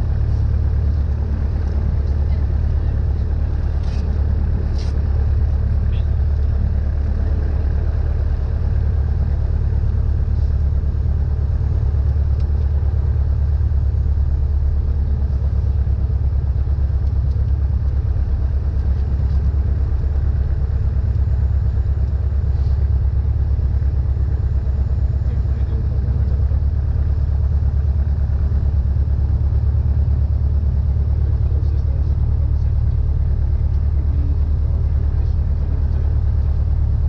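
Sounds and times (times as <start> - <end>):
propeller plane engine drone: 0.0 - 37.0.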